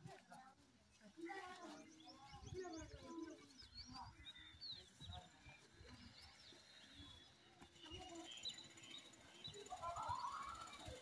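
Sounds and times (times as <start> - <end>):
birds chirping: 1.5 - 11.0.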